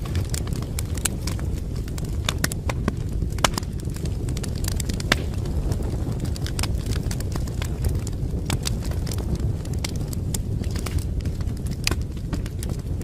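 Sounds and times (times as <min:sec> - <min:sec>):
fire pops and snaps: 0:00.0 - 0:13.0
low rumble of burning logs: 0:00.0 - 0:13.0.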